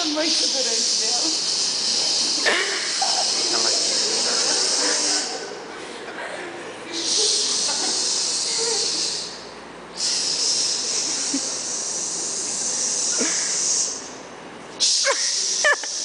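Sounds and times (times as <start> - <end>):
loud high hissing: 0.0 - 5.6, 6.9 - 14.2, 14.8 - 16.0.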